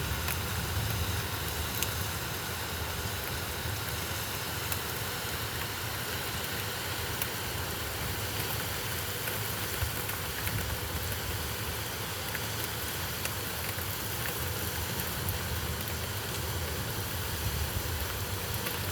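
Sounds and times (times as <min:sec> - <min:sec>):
heavy rain hiss: 0:00.0 - 0:18.9
raindrops ticking on surfaces: 0:00.0 - 0:18.9.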